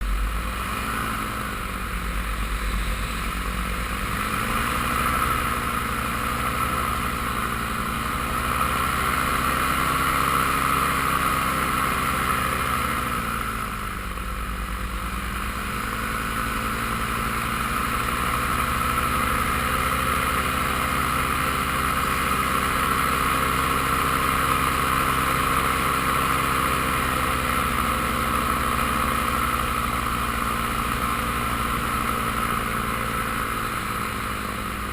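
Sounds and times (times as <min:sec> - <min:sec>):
paramotor engine and propeller: 0:00.0 - 0:34.9.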